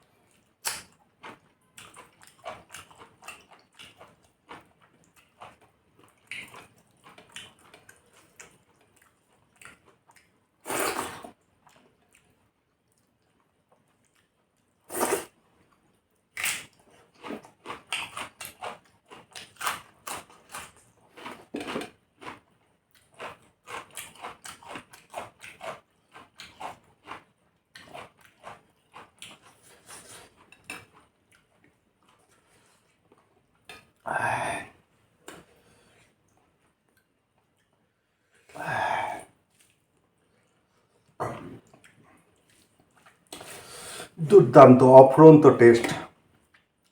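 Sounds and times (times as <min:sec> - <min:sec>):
person chewing food: 0:00.1 - 0:15.3, 0:16.4 - 0:34.0, 0:38.4 - 0:44.2.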